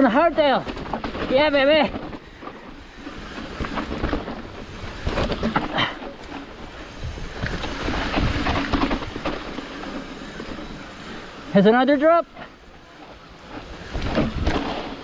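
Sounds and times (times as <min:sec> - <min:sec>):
bike tyre noise on dirt: 0:00.0 - 0:15.0
rattling knocks over bumps: 0:00.3 - 0:11.4, 0:13.4 - 0:15.0
wind buffeting microphone: 0:00.4 - 0:11.4, 0:13.2 - 0:15.0.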